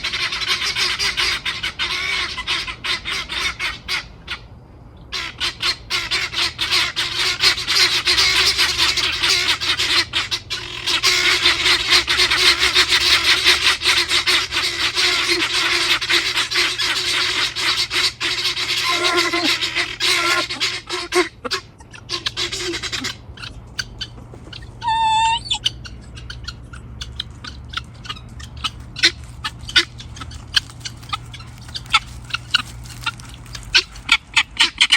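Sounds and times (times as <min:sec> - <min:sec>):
guineafowl cackling: 0:00.0 - 0:34.9.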